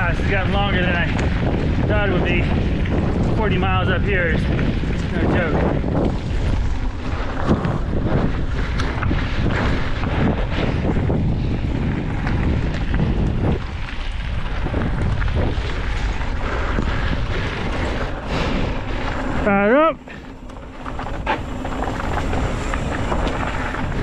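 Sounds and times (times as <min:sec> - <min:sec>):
bike clattering over bumps: 0:00.0 - 0:24.0
bike rolling over dirt trail: 0:00.0 - 0:24.0
wind buffeting microphone: 0:00.0 - 0:24.0.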